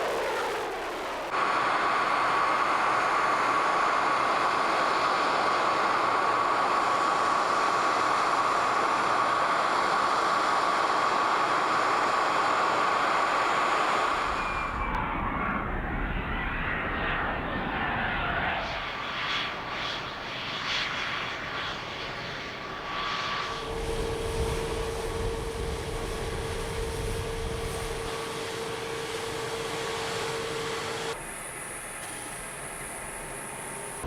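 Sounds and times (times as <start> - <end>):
jet engine roaring with whine: 0.0 - 34.0.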